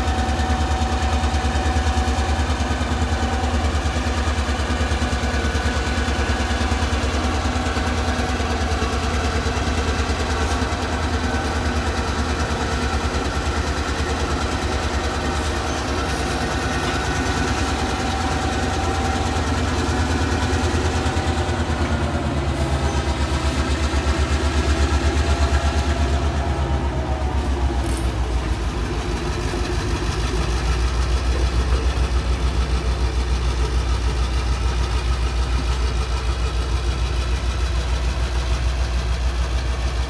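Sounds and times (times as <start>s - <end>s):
diesel locomotive engine humming: 0.0s - 40.0s.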